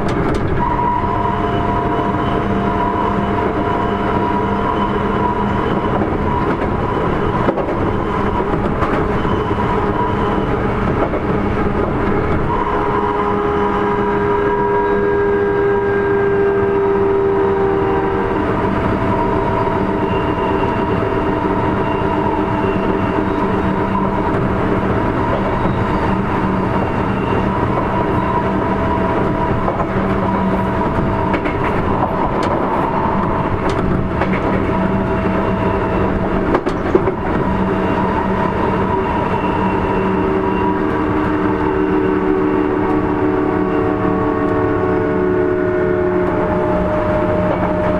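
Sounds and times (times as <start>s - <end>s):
traction motor whine: 0.0s - 47.9s
train wheels rumbling on rail: 0.0s - 47.9s.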